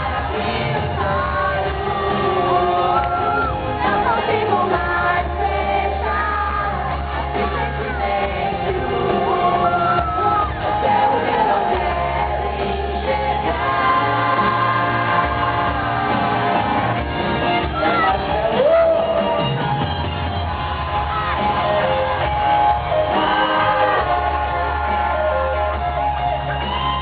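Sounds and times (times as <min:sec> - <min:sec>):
crowd voices and shouts: 0:00.0 - 0:27.0
live pop-rock band with singing: 0:00.0 - 0:27.0.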